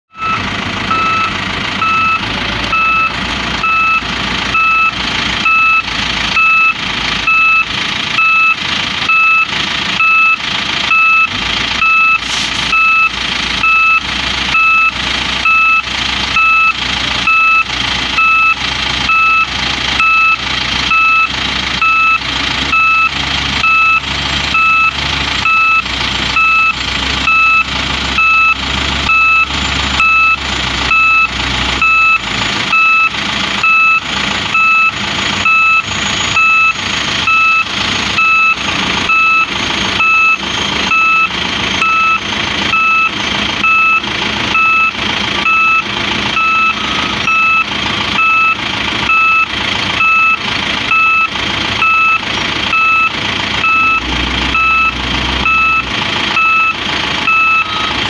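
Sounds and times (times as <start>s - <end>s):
diesel engine running: 0.0s - 58.0s
reversing alarm beeping: 0.1s - 58.0s.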